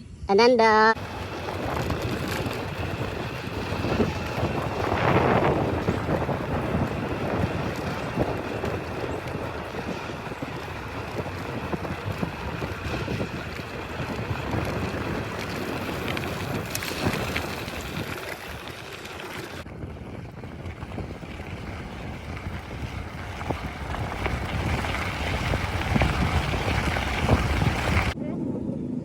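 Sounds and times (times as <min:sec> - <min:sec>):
wind buffeting microphone: 0:01.0 - 0:28.6.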